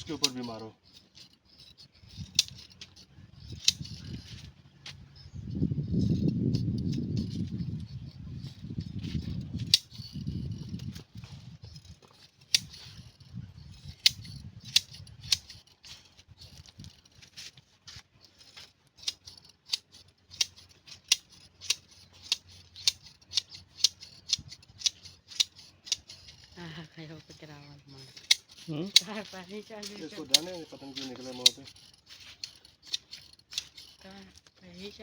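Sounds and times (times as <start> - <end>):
shears snipping wool: 0.0 - 35.0.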